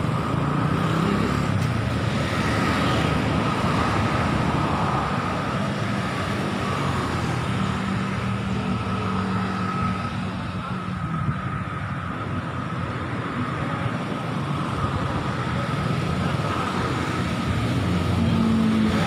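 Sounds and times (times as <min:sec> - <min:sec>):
car engines: 0:00.0 - 0:19.0
motorbike engines: 0:00.0 - 0:19.0.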